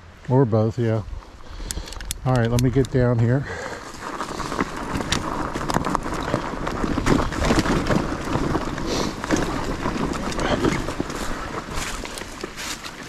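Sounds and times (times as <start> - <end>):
bike rattling: 1.3 - 13.0
bike tyres crunching on gravel: 2.2 - 13.0.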